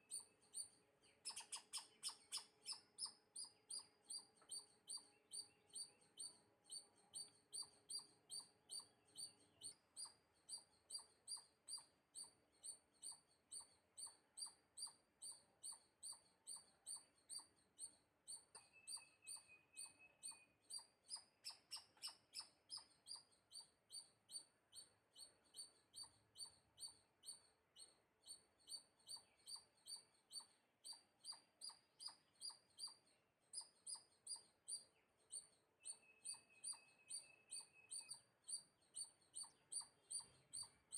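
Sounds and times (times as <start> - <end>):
small animal chirping: 0.0 - 40.9.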